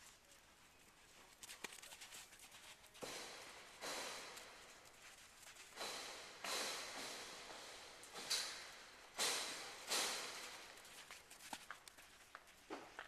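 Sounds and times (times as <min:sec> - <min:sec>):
horse hooves scuffing: 0:00.0 - 0:13.0.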